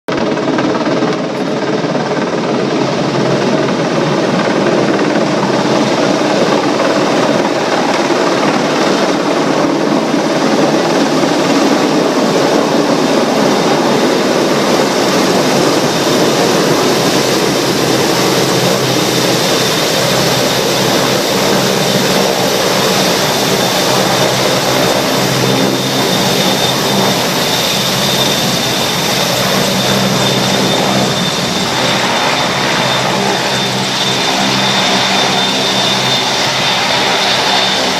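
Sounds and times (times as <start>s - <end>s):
helicopter rotor and engines: 0.0s - 37.9s
high turbine whine: 0.1s - 37.9s.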